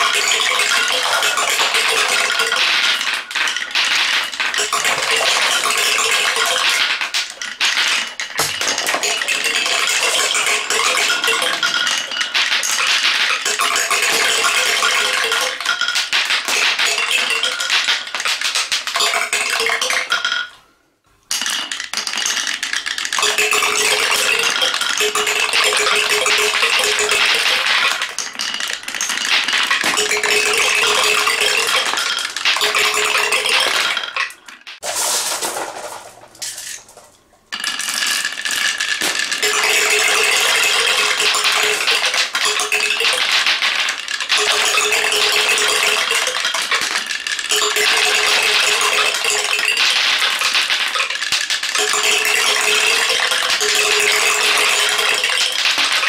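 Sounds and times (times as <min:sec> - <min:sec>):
glass marbles clattering on wood: 0:00.0 - 0:20.6, 0:21.3 - 0:56.0.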